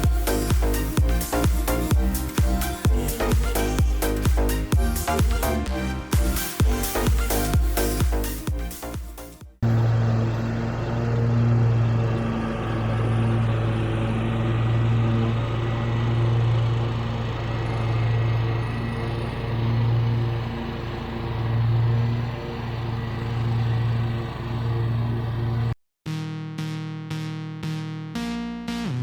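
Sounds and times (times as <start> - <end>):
ride-on mower engine running: 0.0 - 9.0, 9.6 - 25.8.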